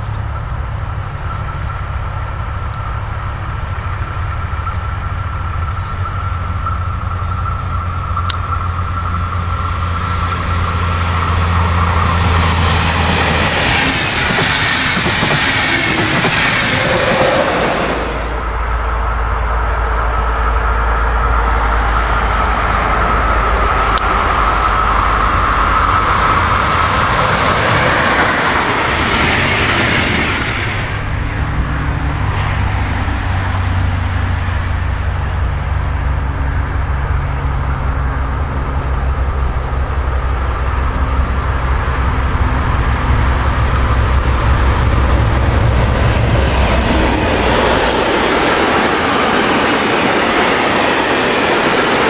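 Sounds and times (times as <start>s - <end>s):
diesel locomotive engine hum: 0.0s - 52.0s
electric locomotive whine: 0.0s - 52.0s
freight train rolling: 0.0s - 52.0s.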